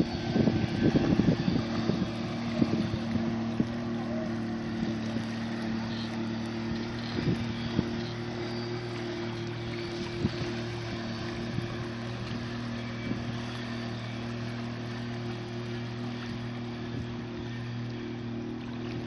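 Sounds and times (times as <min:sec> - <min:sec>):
wind buffeting microphone: 0:00.0 - 0:17.9
motorboat engine humming: 0:00.0 - 0:19.0.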